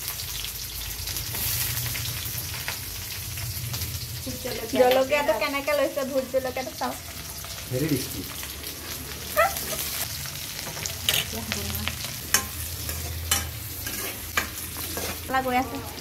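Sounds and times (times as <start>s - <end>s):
oil sizzling in wok: 0.0s - 16.0s.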